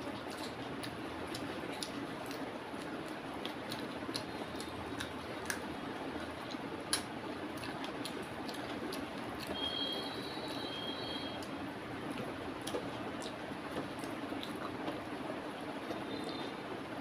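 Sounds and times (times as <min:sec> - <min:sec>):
chewing clicks and smacks: 0:00.0 - 0:15.2.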